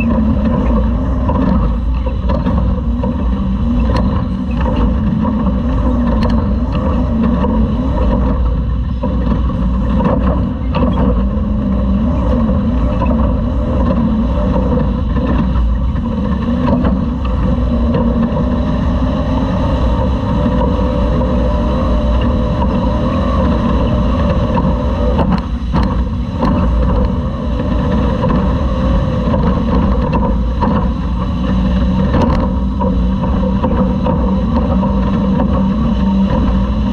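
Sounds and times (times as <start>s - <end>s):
truck rumbling on rough dirt: 0.0s - 36.9s.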